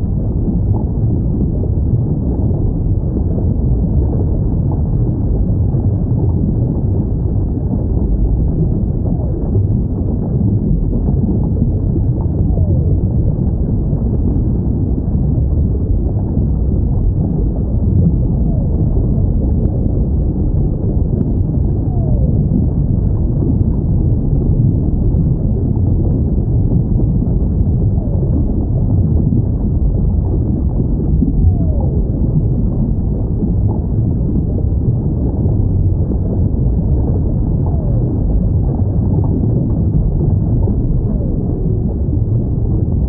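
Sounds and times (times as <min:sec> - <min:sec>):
deep rumble of sea noise: 0:00.0 - 0:43.0.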